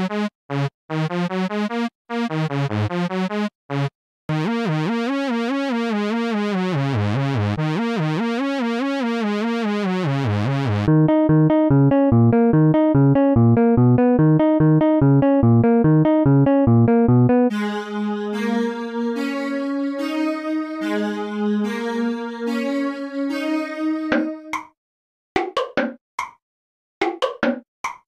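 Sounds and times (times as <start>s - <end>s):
synthesizer and electric piano music: 0.0s - 24.8s.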